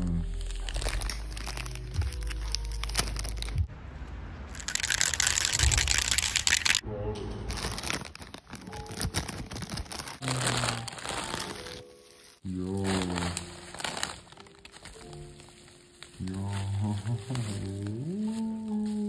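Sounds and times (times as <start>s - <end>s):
foil bag crinkling: 0.0s - 3.7s, 4.5s - 6.8s, 7.4s - 19.0s.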